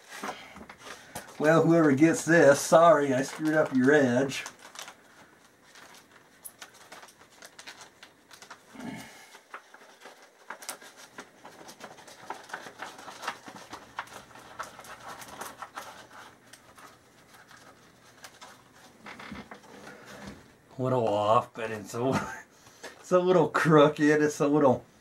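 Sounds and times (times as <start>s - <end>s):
paper rustling and ticking: 0.0s - 21.1s.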